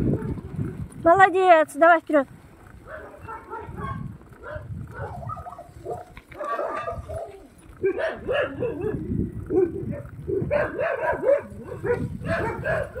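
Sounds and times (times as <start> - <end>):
bicycle tyres on dirt road: 0.0 - 13.0.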